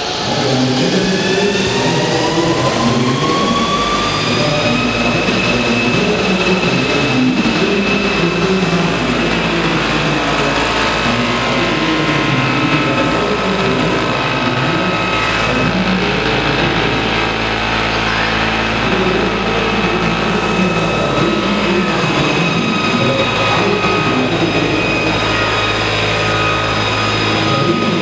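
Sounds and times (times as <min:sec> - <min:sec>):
high drive whine: 0:00.0 - 0:28.0
wavering low hum: 0:00.0 - 0:28.0
model helicopter rotors spinning: 0:02.4 - 0:28.0.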